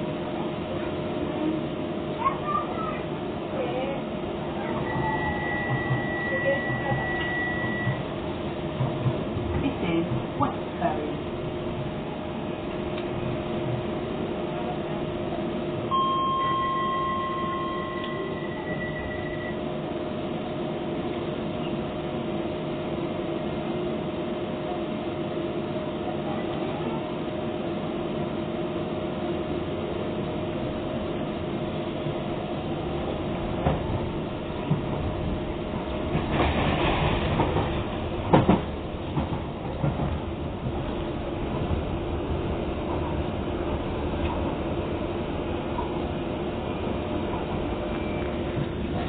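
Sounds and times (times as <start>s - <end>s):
train hum inside carriage: 0.0s - 49.0s.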